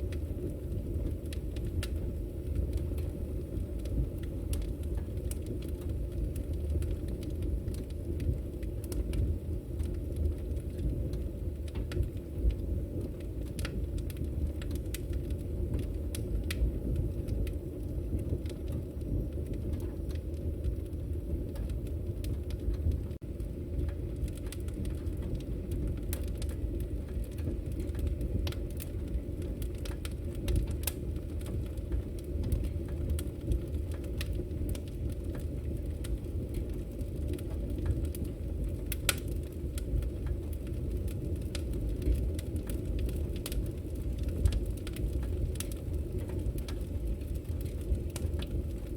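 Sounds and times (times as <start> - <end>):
bonfire flames rumbling: 0.0 - 48.9
fire crackling and popping: 0.0 - 48.9.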